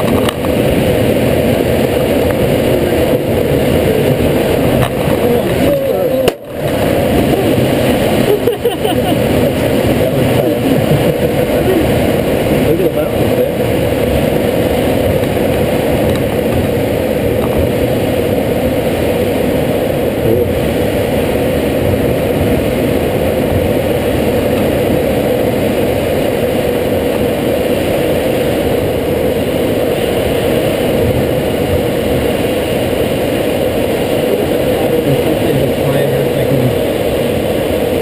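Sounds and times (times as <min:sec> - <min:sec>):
air rushing over cockpit canopy: 0:00.0 - 0:38.0
constant drone: 0:00.0 - 0:38.0.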